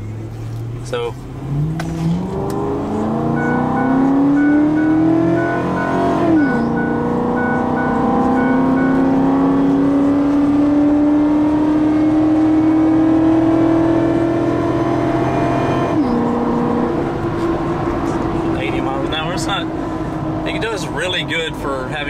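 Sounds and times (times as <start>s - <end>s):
truck engine accelerating: 0.0s - 22.0s.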